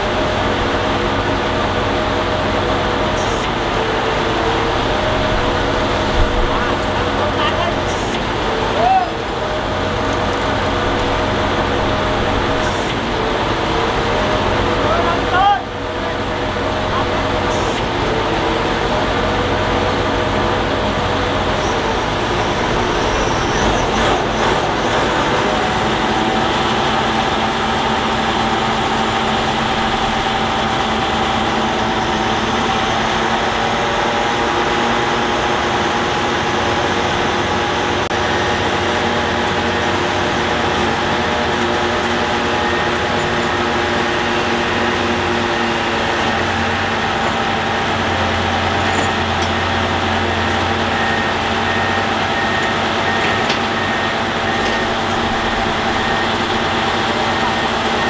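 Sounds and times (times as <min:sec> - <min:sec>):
heavy machinery diesel engines: 0:00.0 - 0:58.0.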